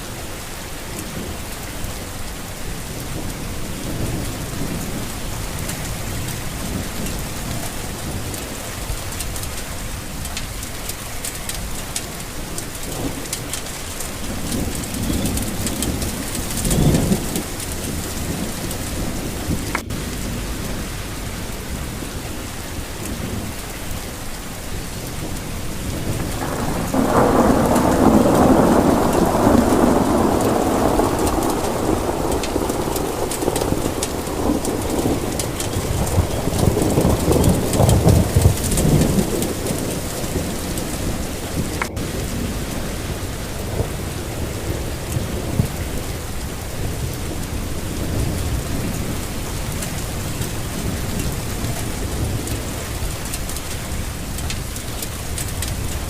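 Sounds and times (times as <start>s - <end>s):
steady rain falling: 0.0s - 56.0s
thunder rumbling: 0.0s - 56.0s.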